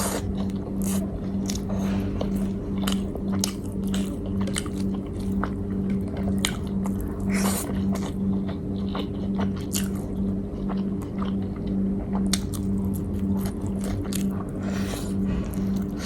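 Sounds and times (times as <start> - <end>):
chewing and biting food: 0.0 - 16.0
steady low hum: 0.0 - 16.0.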